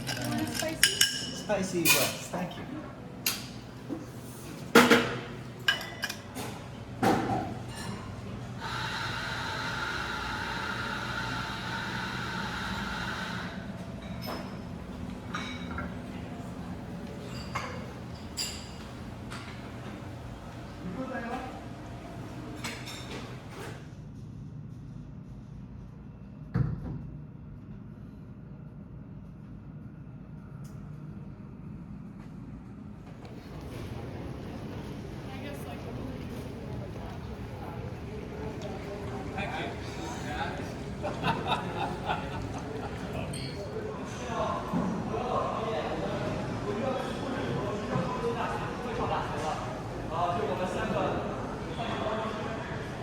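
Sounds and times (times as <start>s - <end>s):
low background hum: 0.0s - 53.0s.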